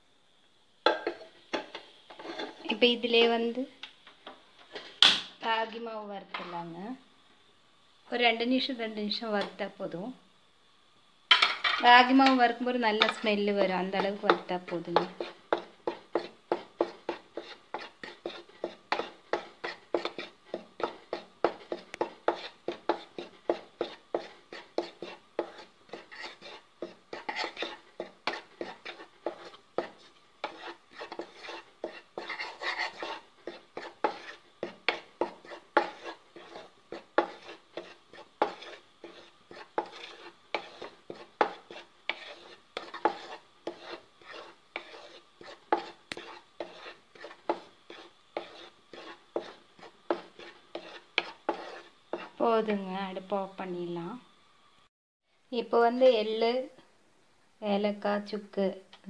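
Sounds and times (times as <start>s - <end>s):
wooden spatula scraping a pan: 0.8s - 3.6s, 4.2s - 6.7s, 11.3s - 53.6s.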